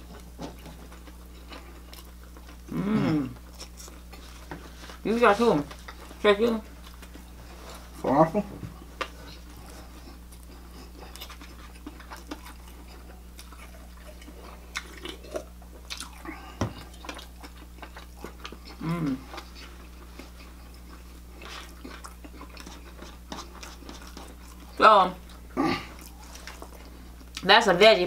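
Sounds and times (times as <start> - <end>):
people chewing: 0.0 - 27.5.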